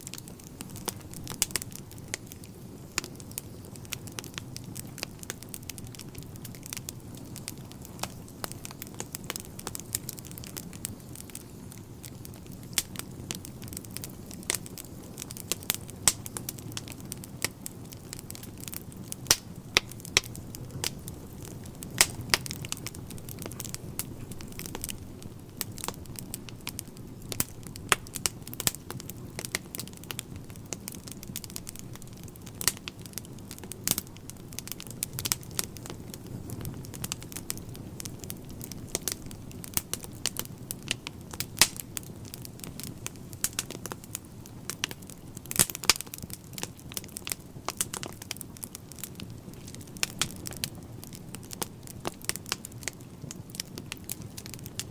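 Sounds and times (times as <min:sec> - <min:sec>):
fire flames rumbling: 0:00.0 - 0:54.9
logs crackling and popping: 0:00.0 - 0:54.9.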